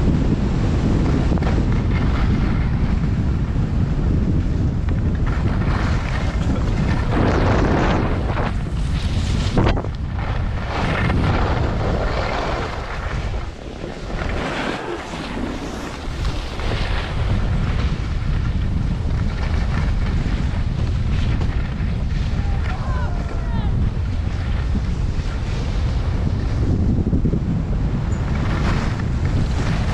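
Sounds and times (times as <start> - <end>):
wind rumbling on microphone: 0.0 - 29.9
skis scraping over snow: 0.1 - 29.9.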